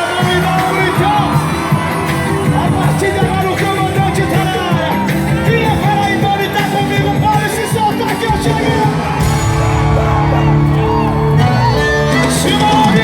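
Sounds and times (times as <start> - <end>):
live band music over pa: 0.0 - 13.0
person singing: 0.0 - 13.0.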